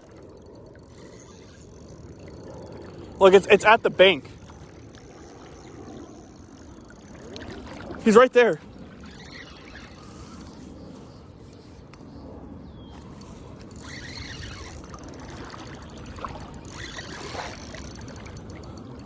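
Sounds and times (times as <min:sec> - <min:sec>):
river water running: 0:00.0 - 0:11.6, 0:13.0 - 0:19.0.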